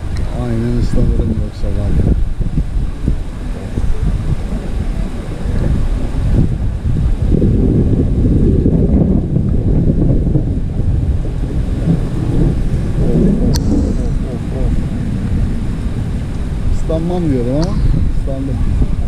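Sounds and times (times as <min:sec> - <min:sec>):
heavy rain: 0:00.0 - 0:19.0
low rumble: 0:00.0 - 0:19.0
wind buffeting microphone: 0:00.0 - 0:19.0.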